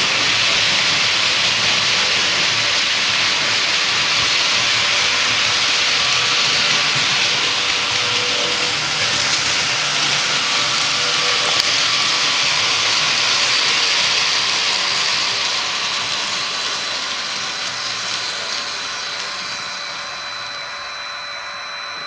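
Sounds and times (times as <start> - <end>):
model locomotive running: 0.0 - 22.0
rushing hiss with high whine: 0.0 - 22.0.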